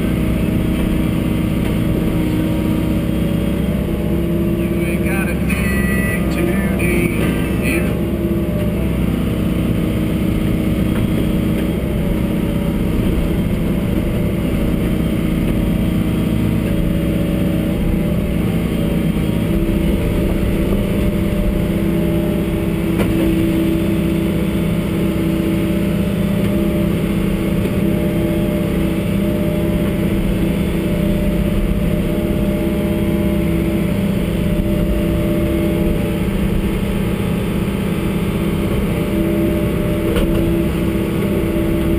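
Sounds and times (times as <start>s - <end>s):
excavator diesel engine and hydraulics: 0.0s - 41.9s.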